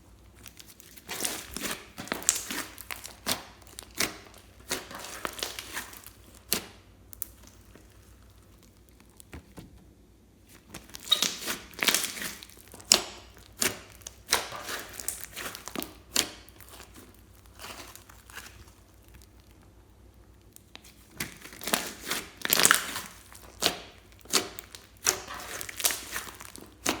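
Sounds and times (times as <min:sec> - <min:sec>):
slime squelching and popping: 0:00.3 - 0:09.6, 0:10.5 - 0:19.7, 0:20.3 - 0:27.0.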